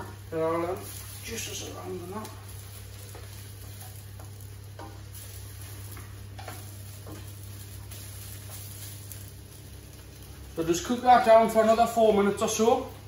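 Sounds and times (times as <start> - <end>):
low sizzle: 0.0 - 13.0
steady low hum: 0.0 - 13.0.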